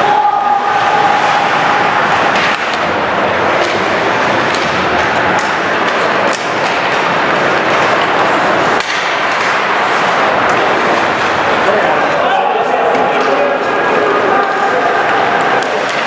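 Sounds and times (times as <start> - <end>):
rink noise rushing: 0.0 - 16.0
sticks and puck clicking: 2.1 - 12.2, 12.9 - 16.0.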